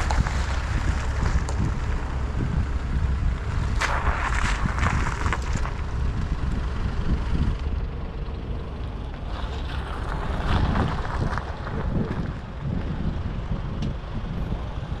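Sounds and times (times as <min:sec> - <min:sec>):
tractor engines running: 0:00.0 - 0:15.0
wind buffeting microphone: 0:00.0 - 0:15.0.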